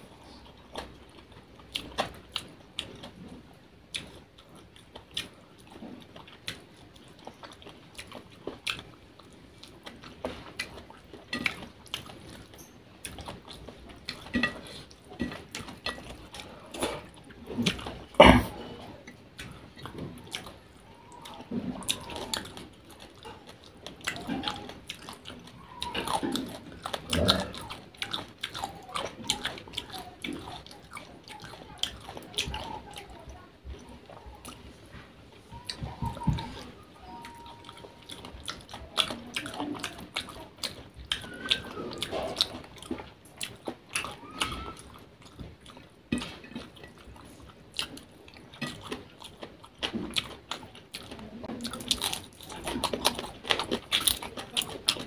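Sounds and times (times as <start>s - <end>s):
person chewing and lip smacking: 0.0s - 55.0s.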